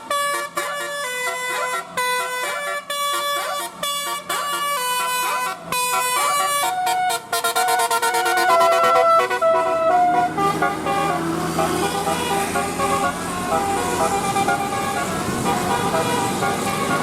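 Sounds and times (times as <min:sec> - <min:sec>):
bus engine running: 0:00.0 - 0:17.0
musical bus air horns: 0:00.0 - 0:17.0.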